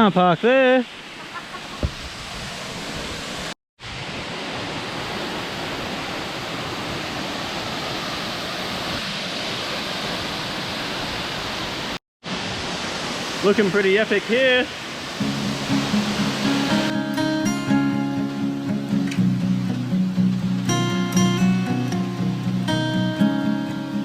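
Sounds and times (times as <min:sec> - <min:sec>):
waterfall rushing: 0:00.1 - 0:24.0.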